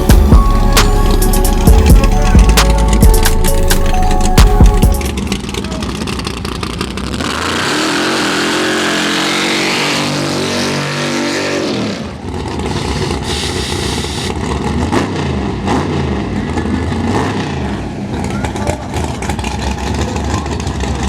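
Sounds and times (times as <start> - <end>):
drag racing engine revving: 0.0 - 21.0.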